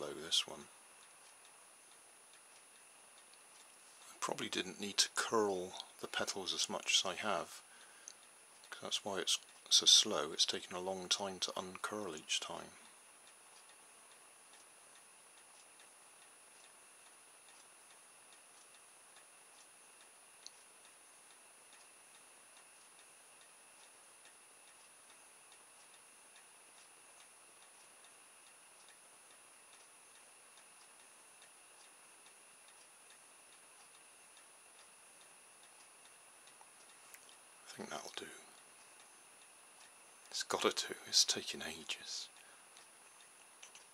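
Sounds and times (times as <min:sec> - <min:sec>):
faint regular ticking: 0:00.0 - 0:43.9.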